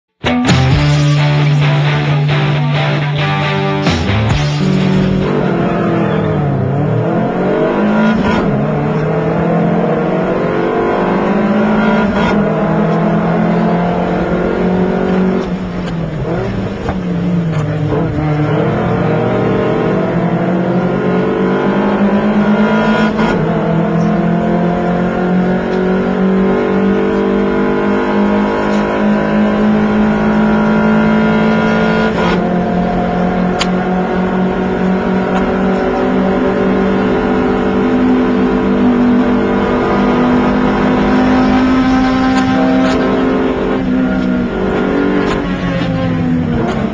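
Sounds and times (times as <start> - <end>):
car engine revving hard: 4.0 - 46.9.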